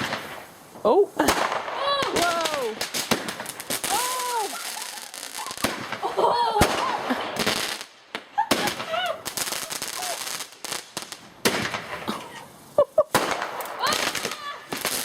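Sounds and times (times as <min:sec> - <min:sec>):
fireworks bangs and cracks: 0:00.0 - 0:15.0
fireworks hissing and crackling: 0:00.0 - 0:15.0.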